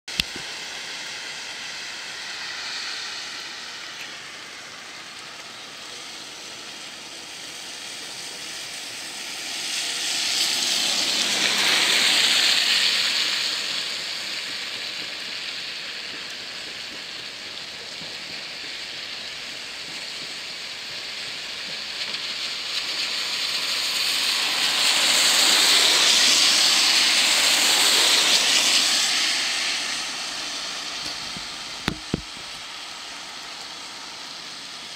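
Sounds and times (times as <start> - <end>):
rain hiss: 0.1 - 34.9
vehicles passing on wet road: 0.1 - 34.9.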